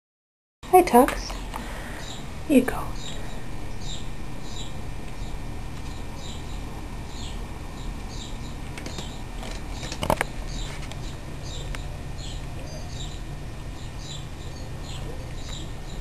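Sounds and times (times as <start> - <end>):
small birds chirping: 0.8 - 16.0.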